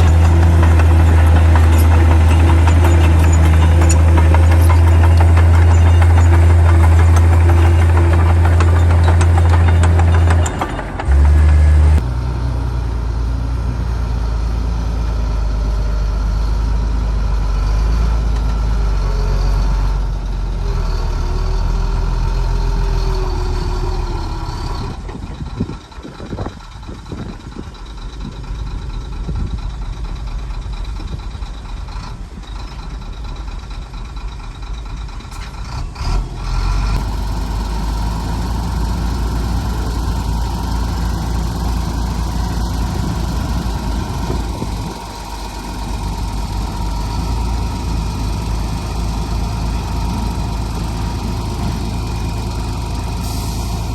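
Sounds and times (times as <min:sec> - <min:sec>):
heavy machinery engine drone: 0:00.0 - 0:53.9.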